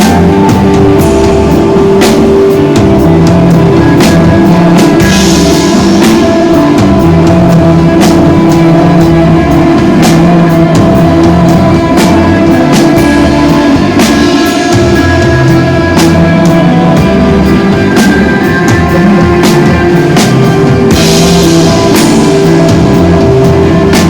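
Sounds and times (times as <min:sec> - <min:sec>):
drum kit beating: 0:00.0 - 0:24.0
electric guitar tones: 0:00.0 - 0:24.0.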